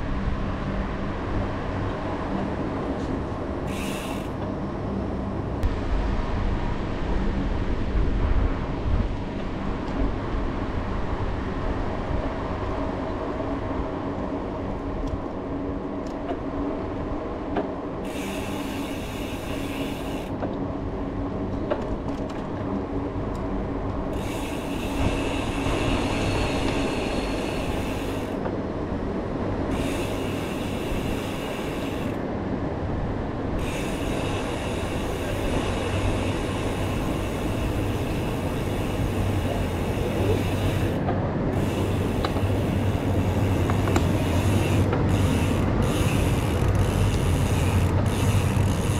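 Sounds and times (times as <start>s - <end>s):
bicycle tyres rumbling: 0.0s - 48.9s
wind: 0.0s - 48.9s.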